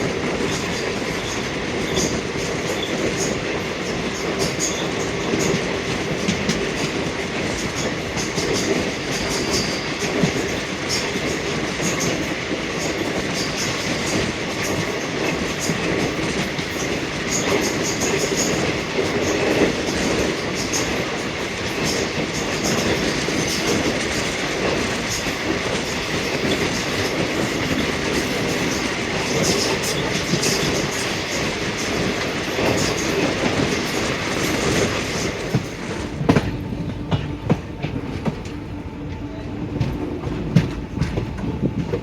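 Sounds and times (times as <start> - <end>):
train wheels rushing over track: 0.0 - 42.0.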